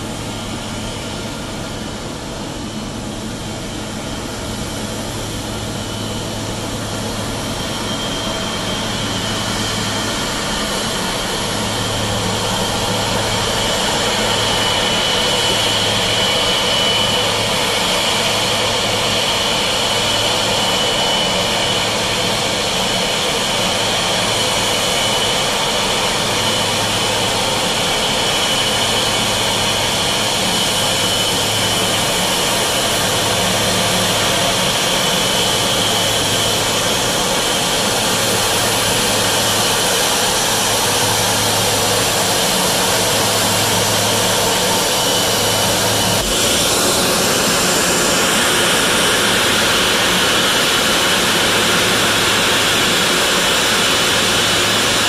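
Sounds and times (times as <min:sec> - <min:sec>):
jet engines rushing and whining: 0:00.0 - 0:55.0.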